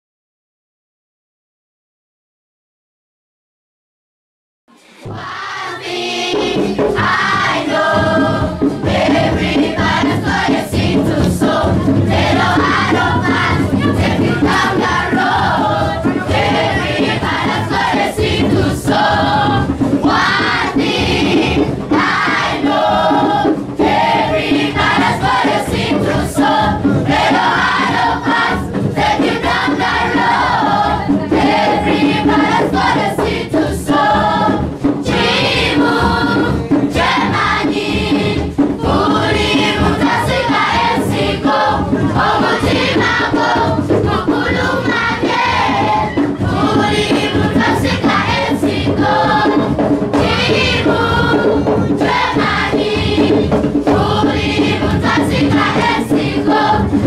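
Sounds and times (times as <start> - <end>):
choir singing: 4.8 - 57.0.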